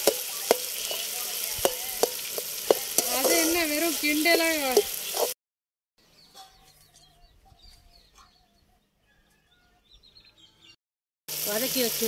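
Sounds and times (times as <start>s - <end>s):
small birds chirping: 0.2s - 5.4s, 6.0s - 10.8s.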